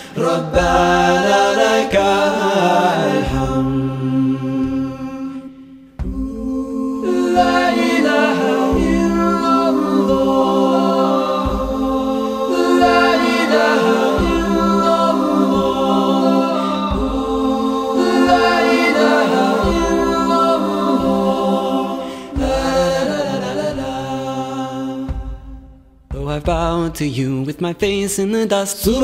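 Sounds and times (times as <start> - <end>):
a cappella voices singing chords: 0.0 - 29.0
deep pulse: 3.2 - 27.0.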